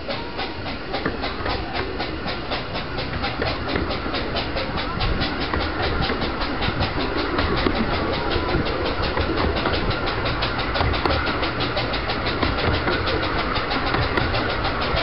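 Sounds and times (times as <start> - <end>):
low rumble of moving train: 0.0 - 15.0
steam locomotive chuffing: 0.0 - 15.0.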